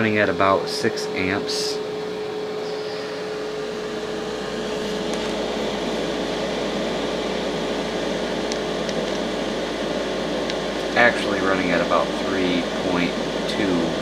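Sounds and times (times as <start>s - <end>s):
generator whirring: 0.0s - 14.0s.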